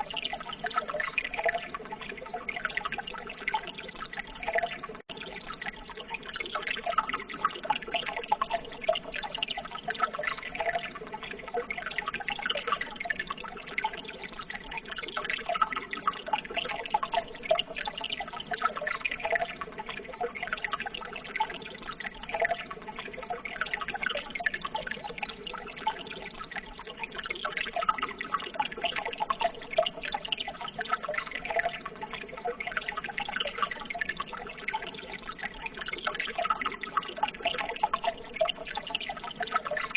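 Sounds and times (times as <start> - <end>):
water splashes and drips: 0.0 - 39.9
water trickling and babbling: 0.0 - 39.9.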